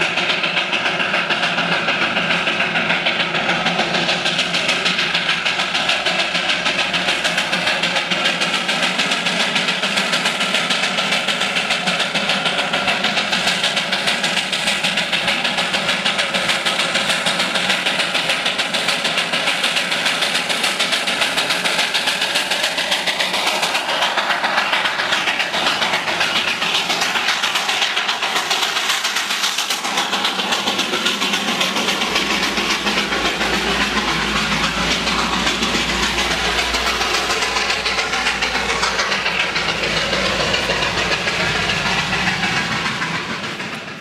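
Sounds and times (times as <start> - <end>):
steam hissing: 0.0 - 44.0
steam locomotive chuffing: 0.0 - 44.0.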